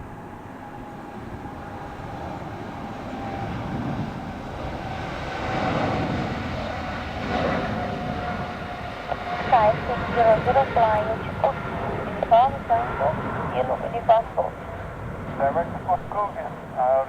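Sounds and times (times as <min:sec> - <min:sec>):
jet airliner engines: 0:00.0 - 0:17.0.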